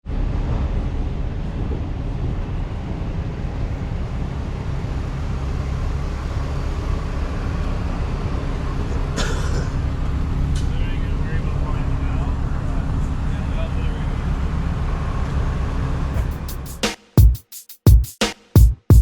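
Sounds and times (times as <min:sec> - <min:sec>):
vehicle engine rumbling: 0:00.1 - 0:16.8.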